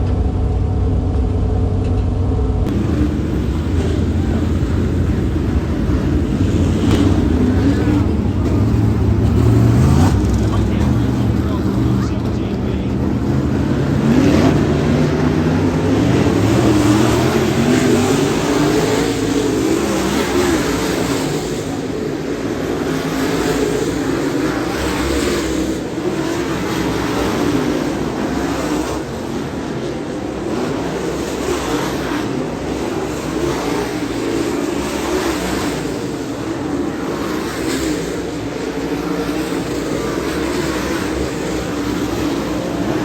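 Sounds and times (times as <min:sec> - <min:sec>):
race car engine running hard: 0:00.0 - 0:43.0.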